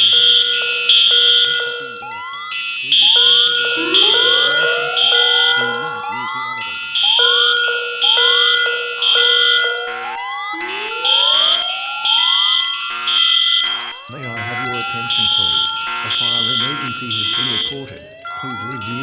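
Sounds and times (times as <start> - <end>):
pulsing high horn tone: 0.0 - 19.0
rising whoop alarm tones: 0.0 - 19.0.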